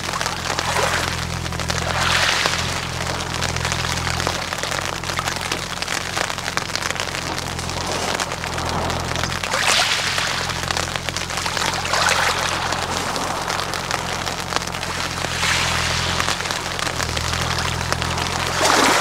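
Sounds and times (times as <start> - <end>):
pebbles rattling: 0.0 - 19.0
steady low hum: 0.0 - 19.0
waves washing onto pebbles: 0.0 - 19.0.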